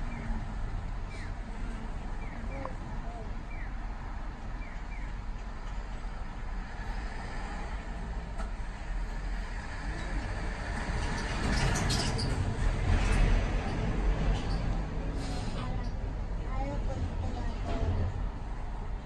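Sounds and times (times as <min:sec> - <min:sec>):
dump truck driving: 0:00.0 - 0:19.0
road traffic rumble: 0:00.0 - 0:19.0.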